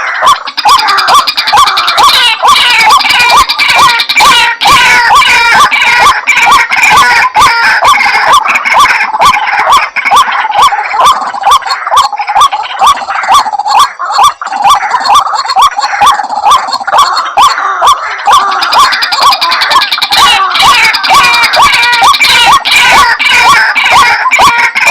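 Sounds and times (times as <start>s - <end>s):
waterhen calling: 0.0s - 24.9s.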